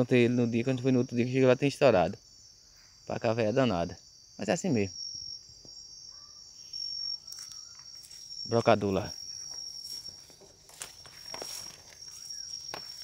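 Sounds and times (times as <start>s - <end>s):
night insect chorus trilling: 0.0s - 13.0s.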